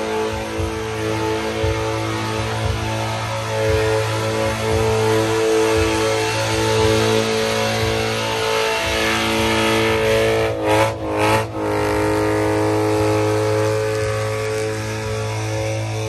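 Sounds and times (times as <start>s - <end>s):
car engine at steady revs: 0.0s - 16.0s.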